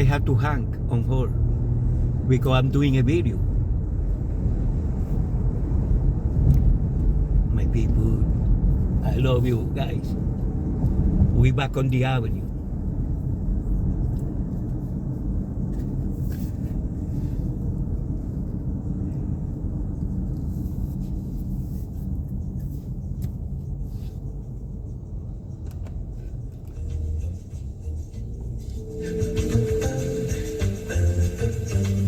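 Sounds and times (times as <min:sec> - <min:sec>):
road and engine rumble: 0:00.0 - 0:32.0.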